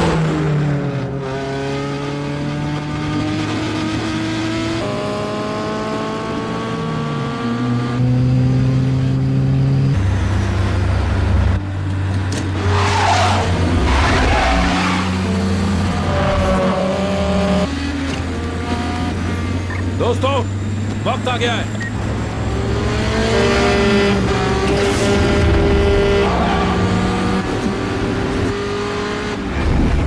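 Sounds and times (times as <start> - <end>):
car engines running hard: 0.0 - 30.0
wind and road noise rushing: 0.0 - 30.0.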